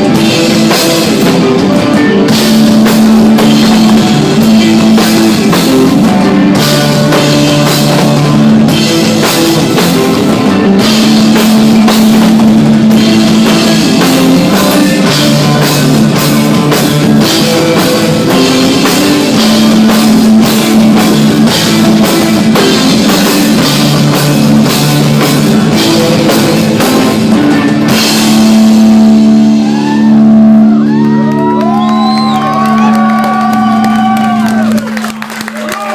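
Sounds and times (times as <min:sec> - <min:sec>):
bass guitar: 0:00.0 - 0:35.9
drum kit: 0:00.0 - 0:35.9
electric guitar: 0:00.0 - 0:35.9.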